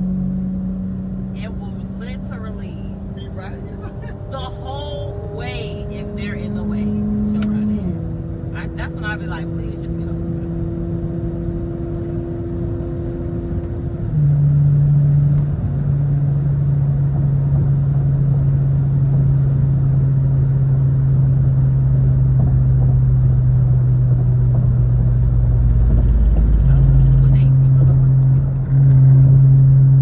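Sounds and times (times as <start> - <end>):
car engine hum: 0.0 - 30.0
tyre and road rumble: 1.0 - 30.0.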